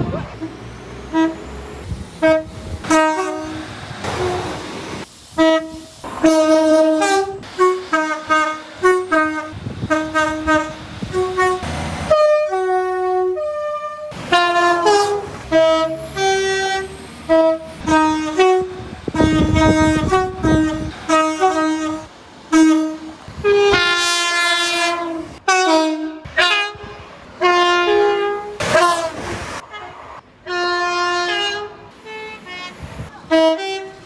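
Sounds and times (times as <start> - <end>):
train rushing past: 0.0 - 34.0
two-tone train horn blasts: 0.2 - 34.0.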